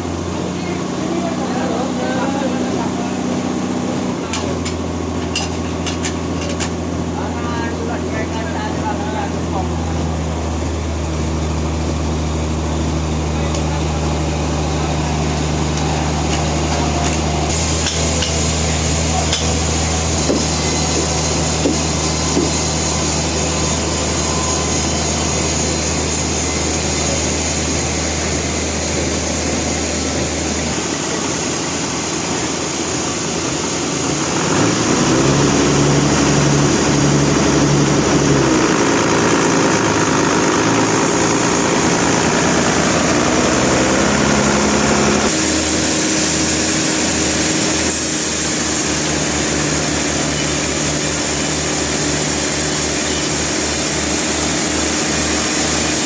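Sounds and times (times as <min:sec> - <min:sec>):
sawmill machinery humming and whining: 0:00.0 - 0:56.0.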